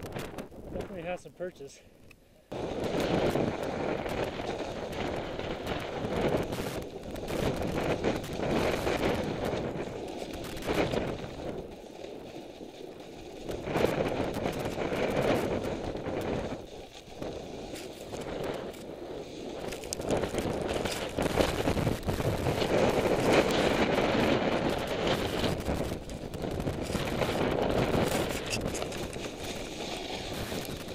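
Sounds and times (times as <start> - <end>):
snow scraping under skis: 2.6 - 26.0, 26.6 - 30.9.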